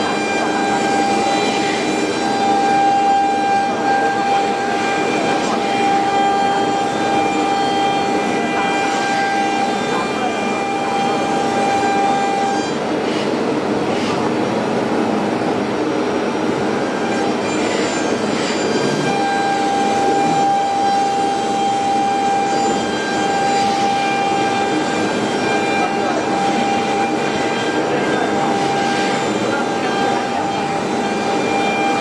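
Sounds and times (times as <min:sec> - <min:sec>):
router machine whining: 0:00.0 - 0:14.2, 0:16.0 - 0:32.0.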